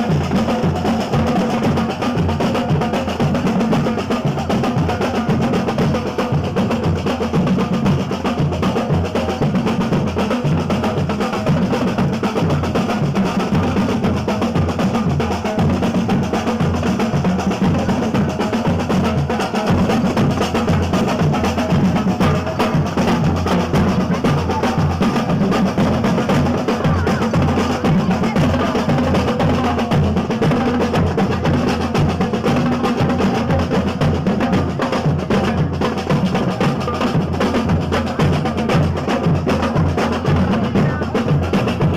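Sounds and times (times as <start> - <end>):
drums and percussion beat: 0.0 - 41.9.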